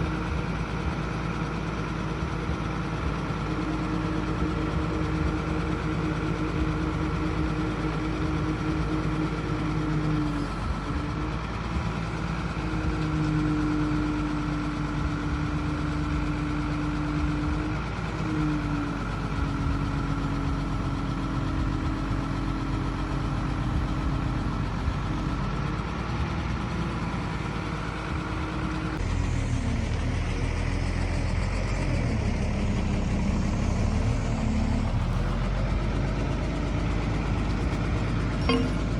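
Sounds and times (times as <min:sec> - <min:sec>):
deeper rumble: 0:00.0 - 0:38.9
heavy vehicle engine running: 0:00.0 - 0:38.9.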